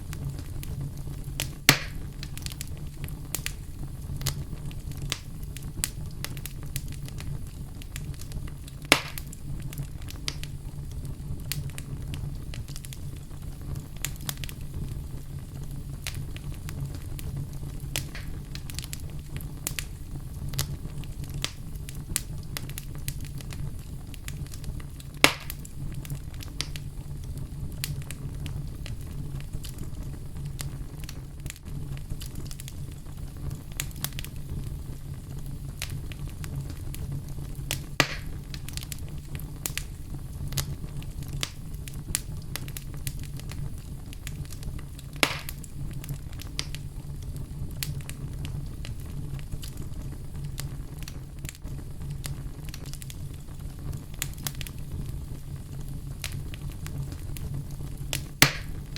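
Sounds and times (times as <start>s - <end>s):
loud sharp fire pops: 0.0s - 46.8s, 47.7s - 58.9s
wood fire crackling: 0.0s - 58.9s.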